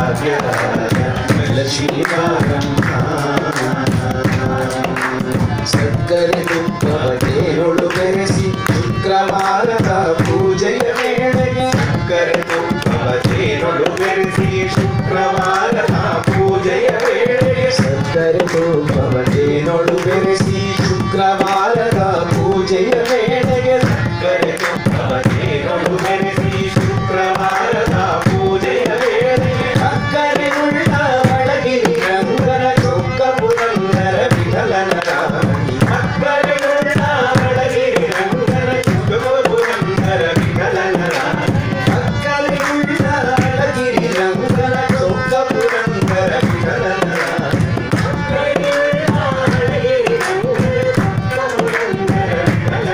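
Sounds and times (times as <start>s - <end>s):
percussion: 0.0s - 52.9s
voices singing together: 0.0s - 52.9s
hand-clapping: 0.2s - 52.9s.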